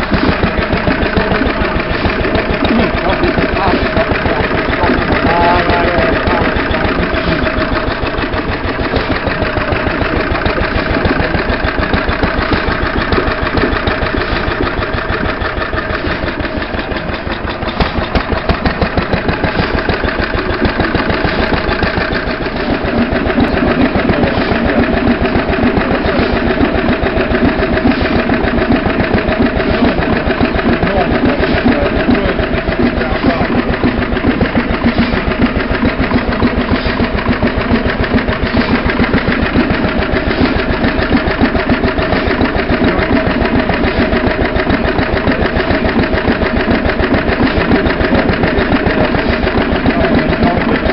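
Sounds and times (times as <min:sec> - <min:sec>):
stationary engine chuffing: 0:00.0 - 0:50.9.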